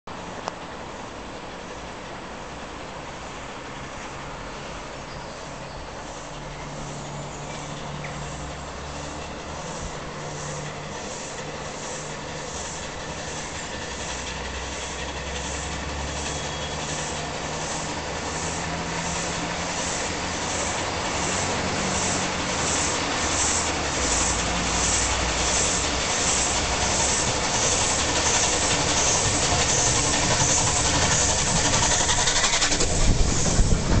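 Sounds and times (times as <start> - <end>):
steam locomotive exhaust beats: 0.1 - 34.0.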